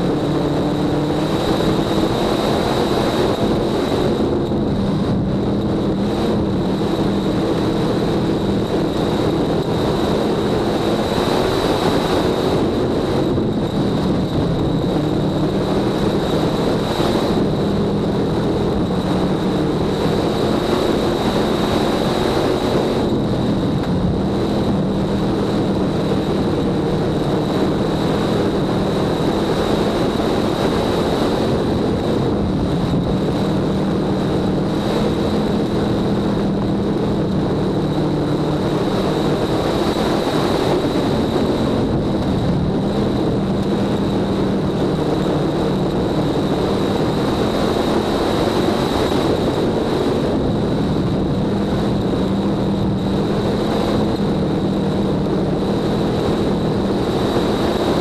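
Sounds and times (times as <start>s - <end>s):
high-pitched whine: 0.0s - 58.0s
race car engine revving: 0.0s - 58.0s.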